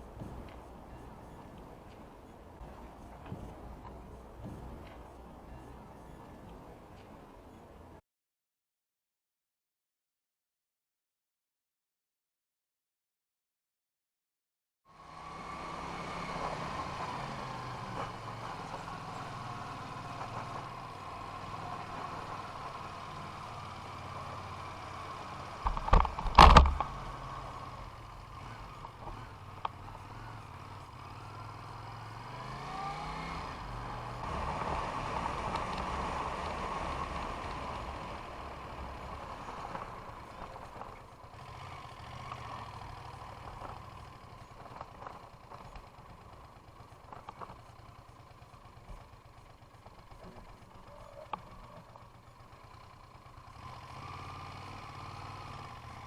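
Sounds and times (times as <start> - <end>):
vehicle engine running: 0.0 - 7.9, 14.9 - 56.0
road noise: 0.0 - 8.0, 14.9 - 56.0.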